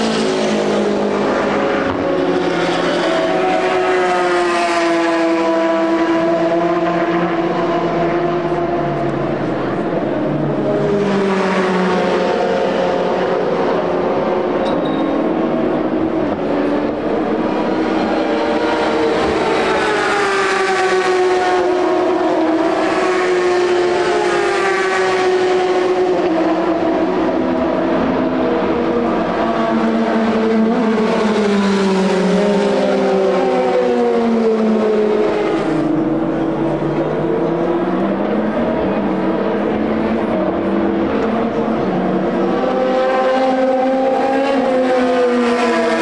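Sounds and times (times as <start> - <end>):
racing car engines passing: 0.0 - 46.0.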